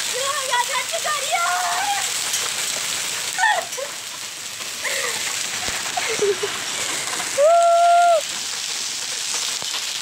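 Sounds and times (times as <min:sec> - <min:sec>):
heavy rain and hail on pavement: 0:00.0 - 0:10.0.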